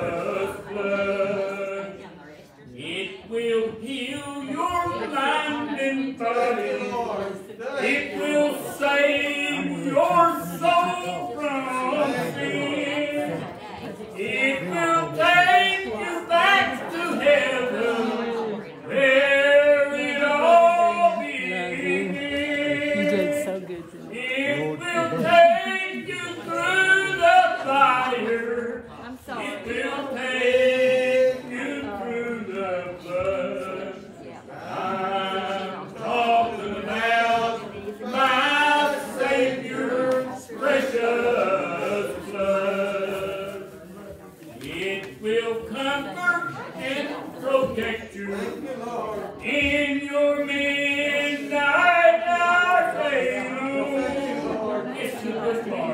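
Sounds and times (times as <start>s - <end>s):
congregation singing a hymn: 0.0s - 55.9s.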